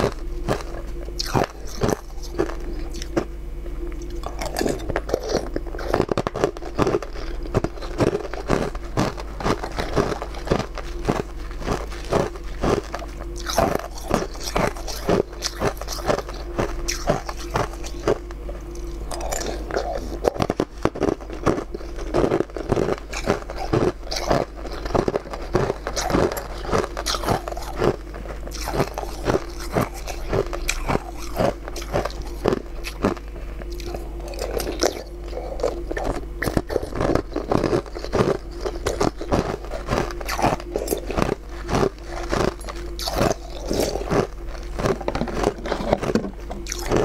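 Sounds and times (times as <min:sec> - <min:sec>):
person eating and chewing: 0:00.0 - 0:47.0.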